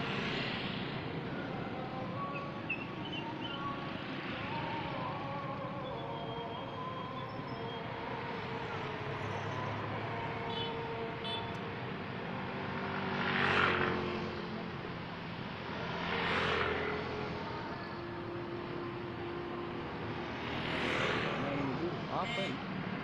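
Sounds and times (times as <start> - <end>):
steady engine hum: 0.0 - 23.0
vehicles passing by: 0.0 - 23.0.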